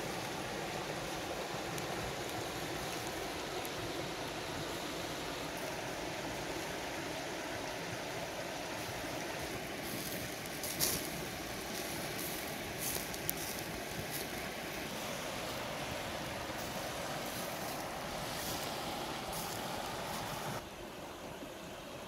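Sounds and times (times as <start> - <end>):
fire crackling and popping: 0.0 - 6.6, 8.8 - 20.6.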